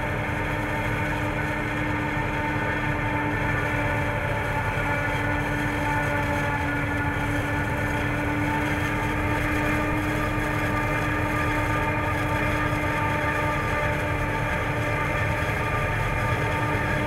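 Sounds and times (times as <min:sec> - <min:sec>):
forage harvester droning: 0:00.0 - 0:17.0
tractor running: 0:00.0 - 0:17.0.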